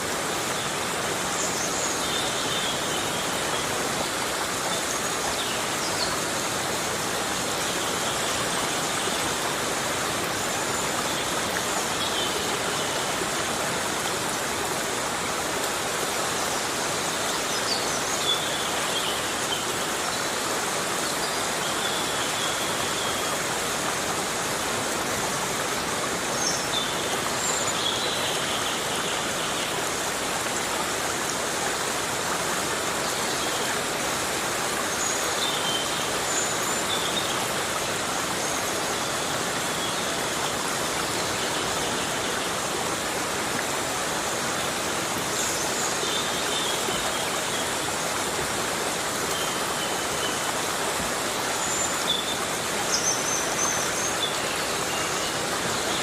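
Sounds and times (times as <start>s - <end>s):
heavy rain on forest: 0.0s - 56.0s.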